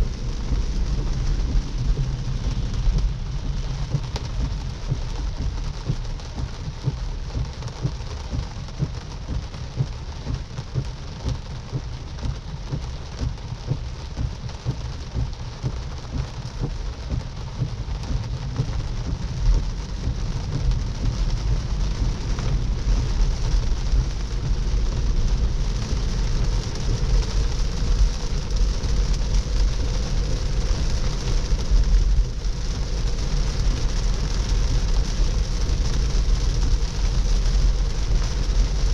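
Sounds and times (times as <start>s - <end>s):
rain pattering on a car: 0.0s - 38.9s
tyres rumbling on wet road: 0.0s - 38.9s.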